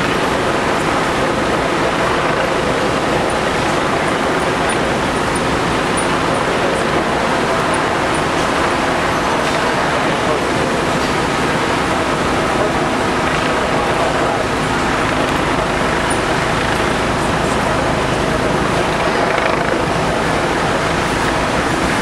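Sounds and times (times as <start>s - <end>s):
diesel engines and pumps running: 0.0s - 22.0s.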